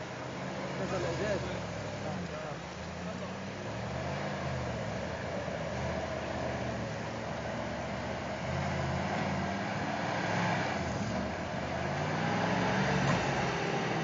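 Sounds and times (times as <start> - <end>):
engine pulling under load: 0.0 - 14.0.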